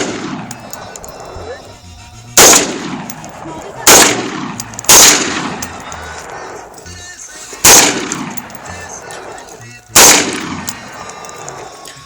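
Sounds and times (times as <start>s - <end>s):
rifle shots with echo: 0.0s - 1.4s, 2.4s - 11.9s.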